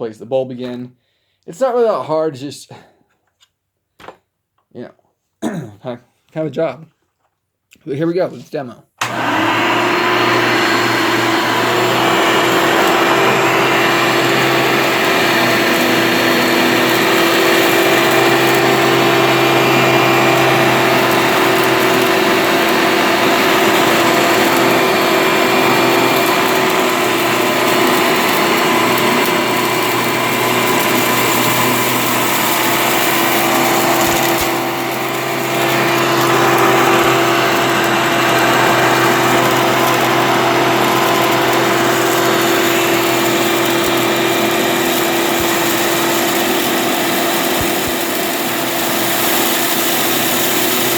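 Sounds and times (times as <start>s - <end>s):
vacuum cleaner running: 9.0s - 50.9s.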